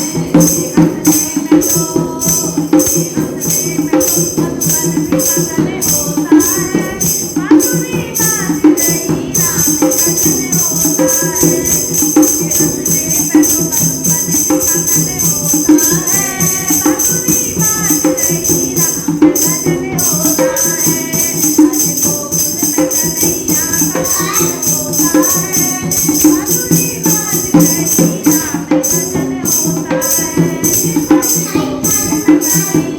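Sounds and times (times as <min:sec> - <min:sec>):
jingling percussion beat: 0:00.0 - 0:32.9
women singing: 0:00.0 - 0:32.9.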